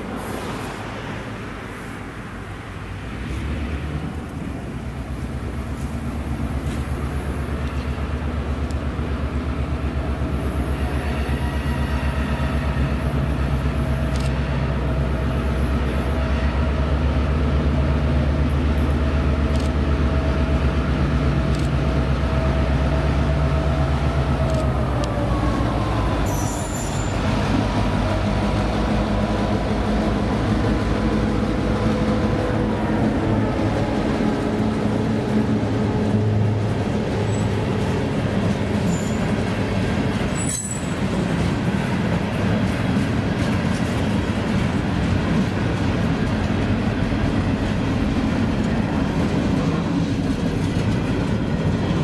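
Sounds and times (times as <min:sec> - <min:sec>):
diesel locomotive engine: 0:00.0 - 0:52.0.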